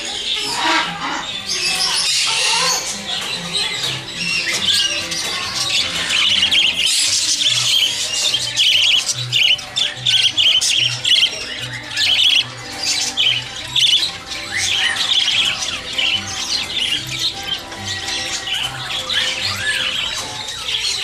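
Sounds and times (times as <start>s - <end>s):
parrots chirping and squawking: 0.0s - 21.0s.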